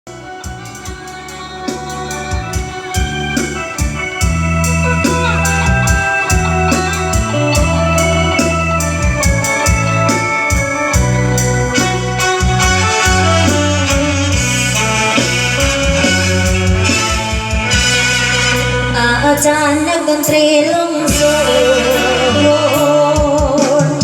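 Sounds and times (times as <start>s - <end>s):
deep bass notes: 0.0s - 20.0s, 21.1s - 23.5s
electronic organ music: 0.0s - 20.2s.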